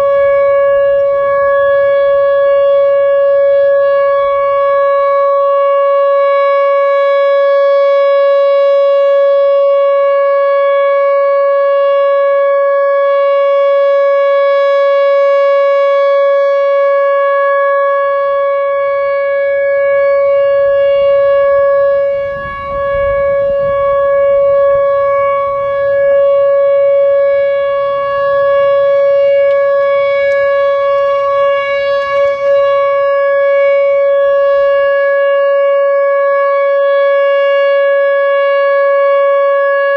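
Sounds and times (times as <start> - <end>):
electronic warning siren tone: 0.0 - 39.9.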